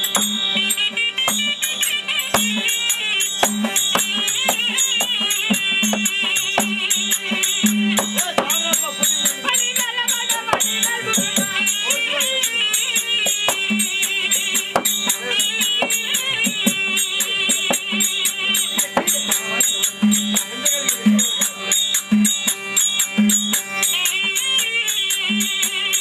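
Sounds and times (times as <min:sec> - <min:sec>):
hand drum strokes: 0:00.0 - 0:26.0
reed wind instrument melody: 0:00.0 - 0:26.0
small metal percussion beat: 0:00.0 - 0:26.0.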